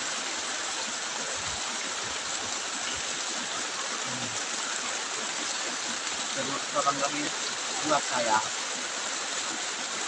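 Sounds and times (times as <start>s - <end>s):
stream water flowing: 0.0s - 10.0s.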